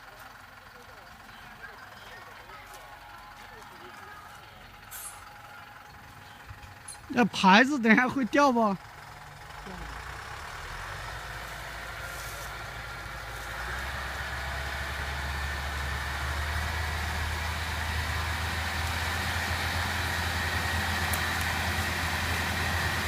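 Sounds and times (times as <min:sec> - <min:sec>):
faint engine whine: 0:00.0 - 0:23.0
truck engine drone: 0:00.0 - 0:23.0.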